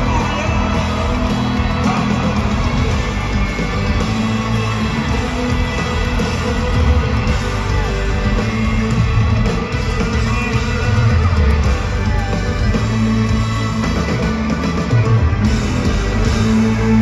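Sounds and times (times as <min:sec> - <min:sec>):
live country band playing: 0:00.0 - 0:17.0.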